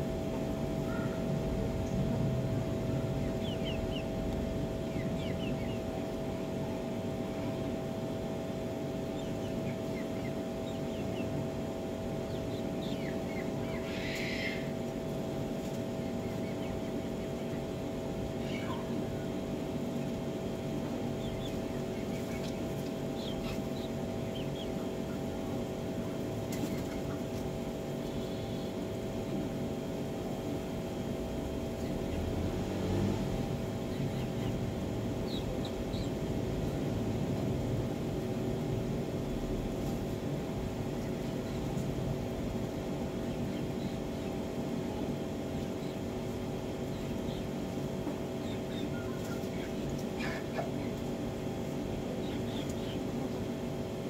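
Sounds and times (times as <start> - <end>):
mechanical hum with low rumble: 0.0 - 54.0.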